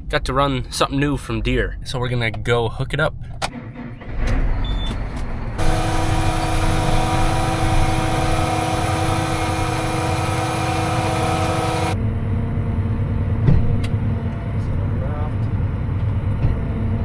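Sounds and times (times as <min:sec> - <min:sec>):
tractor engine running: 0:03.1 - 0:17.0.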